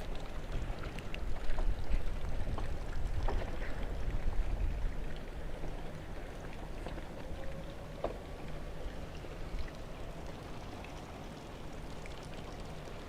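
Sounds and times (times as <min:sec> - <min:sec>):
low mechanism hum: 0:00.0 - 0:13.0.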